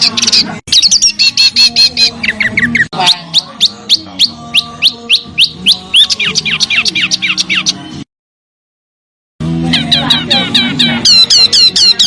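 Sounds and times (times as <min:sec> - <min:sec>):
songbird chirping and whistling: 0:00.0 - 0:08.0, 0:09.7 - 0:12.0.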